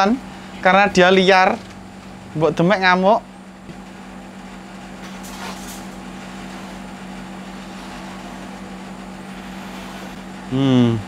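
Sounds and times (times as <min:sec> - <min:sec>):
low mechanical motor hum: 0:00.0 - 0:11.0.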